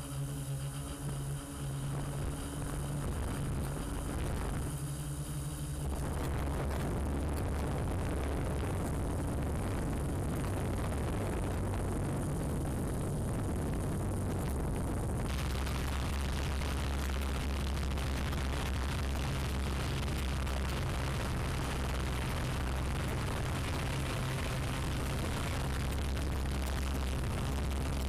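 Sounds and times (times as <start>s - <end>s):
drone propellers whirring: 0.0s - 28.0s
wind noise: 0.8s - 28.0s.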